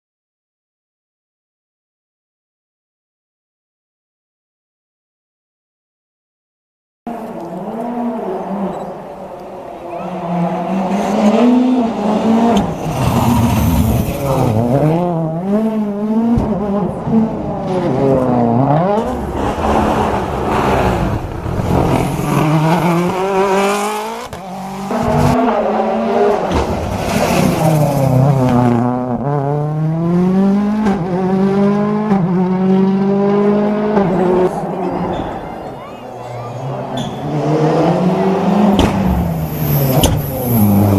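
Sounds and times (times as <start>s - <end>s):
rally car engine revving: 7.1s - 40.9s.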